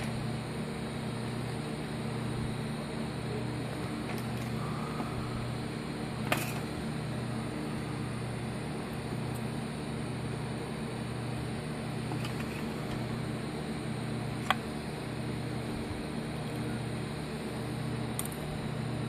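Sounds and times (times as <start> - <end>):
cooling fan hum: 0.0 - 19.0.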